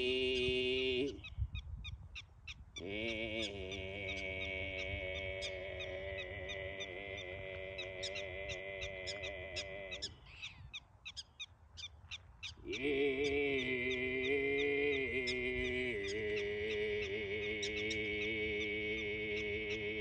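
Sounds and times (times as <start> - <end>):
throat singing: 0.0 - 1.5, 2.8 - 10.6, 12.6 - 20.0.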